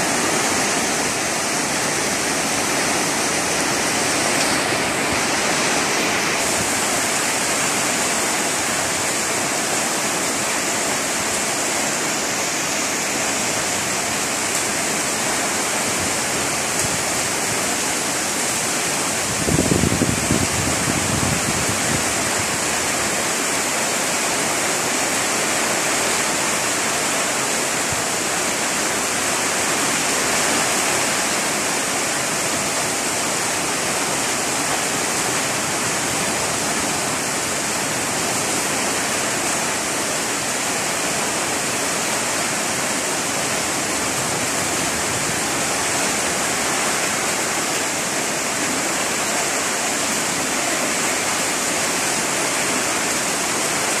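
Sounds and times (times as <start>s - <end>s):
heavy rain on grass and leaves: 0.0s - 54.0s.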